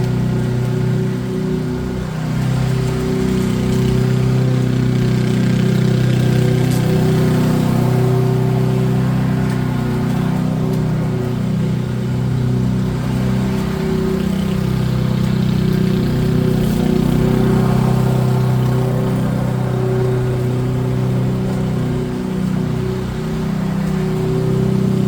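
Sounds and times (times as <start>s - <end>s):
small petrol engine under load: 0.0s - 25.0s.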